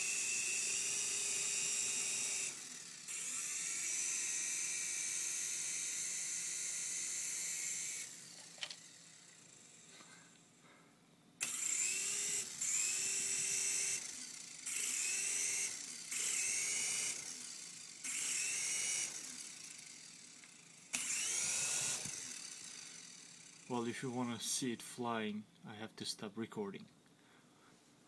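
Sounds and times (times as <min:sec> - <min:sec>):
small electric motor whirring: 0:00.0 - 0:10.6, 0:11.4 - 0:24.2.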